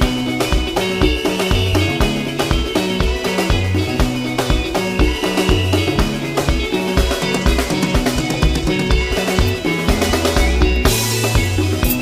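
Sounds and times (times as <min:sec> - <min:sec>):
bass guitar: 0:00.0 - 0:12.0
drum kit: 0:00.0 - 0:12.0
live dance band music: 0:00.0 - 0:12.0.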